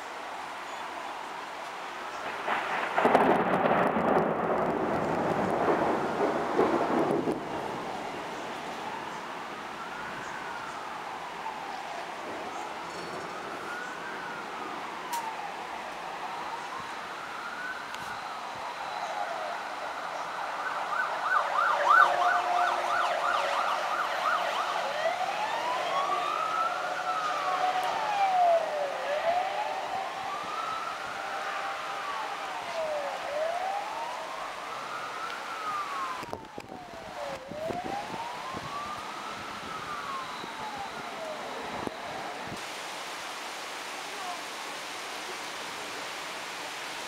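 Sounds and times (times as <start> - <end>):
heavy rain hissing: 0.0 - 37.4, 38.0 - 47.0
emergency vehicle siren: 0.0 - 47.0.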